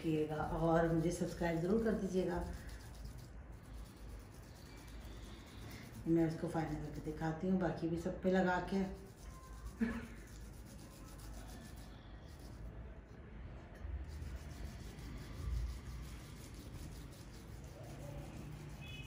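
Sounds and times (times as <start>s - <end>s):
lemon rubbing on corn cob: 0.0s - 7.1s, 9.0s - 12.8s, 14.0s - 19.0s.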